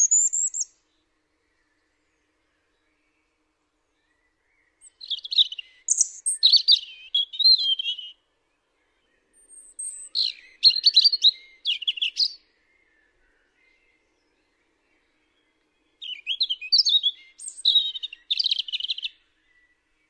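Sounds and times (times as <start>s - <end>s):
songbird singing trills: 0.0s - 20.0s.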